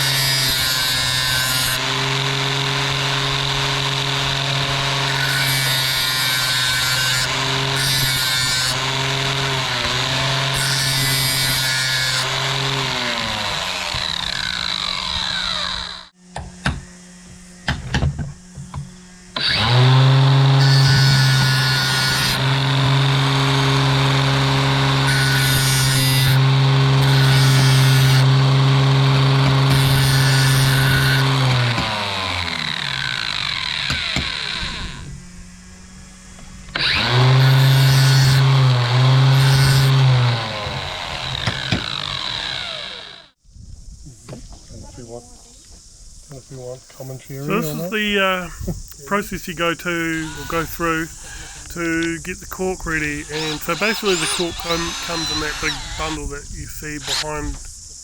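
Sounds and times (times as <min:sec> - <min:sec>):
electric cutting tool grinding steel: 0:00.0 - 0:43.4, 0:47.5 - 0:57.8.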